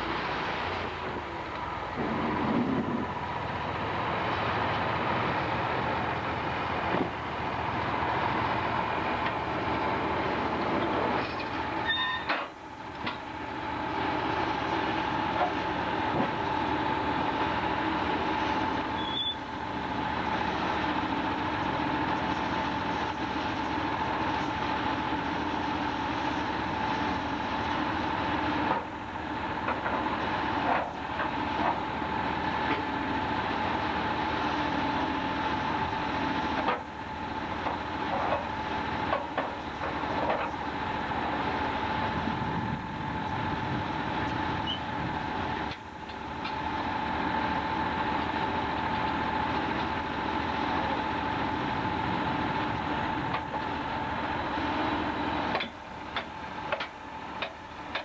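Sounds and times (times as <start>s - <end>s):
sawmill machinery whine: 0.0s - 58.0s.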